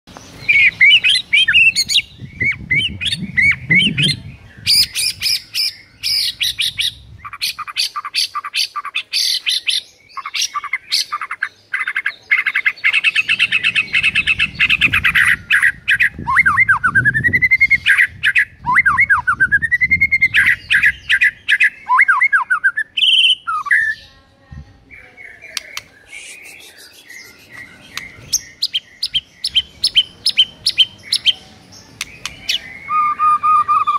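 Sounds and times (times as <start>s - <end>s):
songbird singing varied song: 0.1s - 33.9s.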